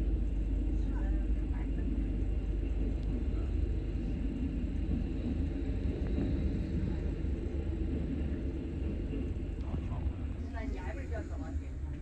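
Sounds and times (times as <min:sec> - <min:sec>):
train carriages rumbling past: 0:00.0 - 0:12.0.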